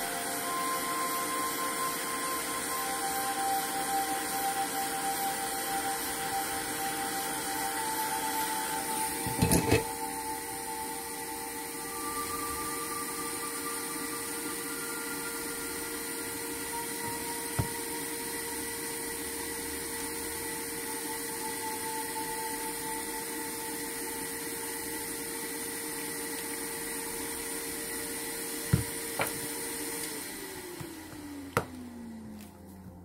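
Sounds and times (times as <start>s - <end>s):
small electric motor whine: 0.0s - 33.0s.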